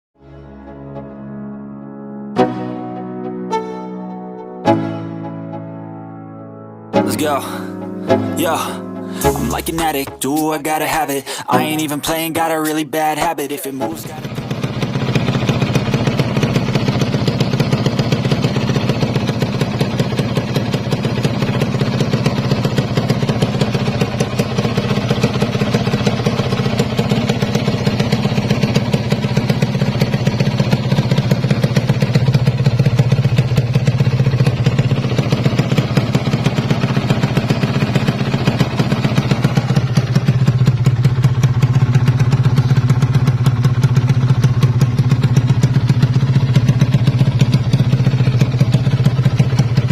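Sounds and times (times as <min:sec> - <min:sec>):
two-stroke engine running: 0:07.0 - 0:49.9.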